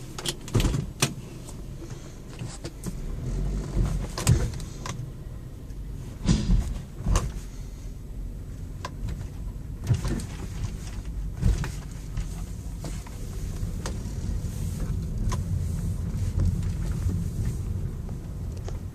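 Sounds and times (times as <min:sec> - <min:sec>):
car wash low rumble: 0:00.0 - 0:18.9.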